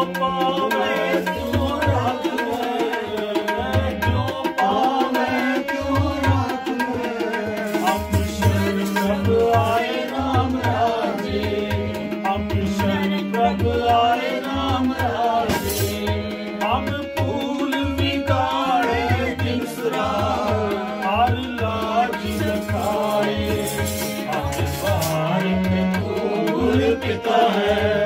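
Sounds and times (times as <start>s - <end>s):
harmonium holding tones: 0.0s - 28.0s
man singing: 0.0s - 28.0s
tabla rhythm: 0.0s - 28.0s.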